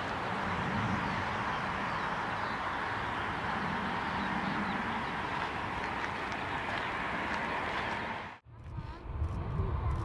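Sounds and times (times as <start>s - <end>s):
constant airfield roar: 0.0s - 10.0s.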